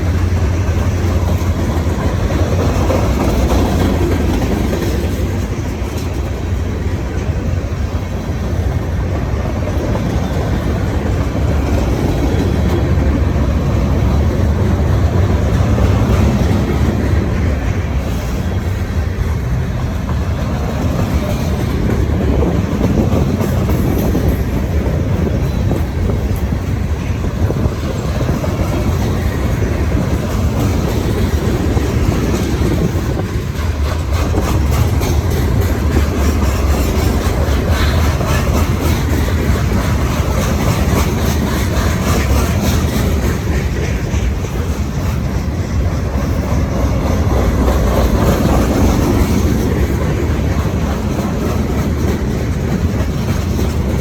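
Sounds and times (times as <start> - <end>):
steel train wheels on rail: 0.0 - 54.0.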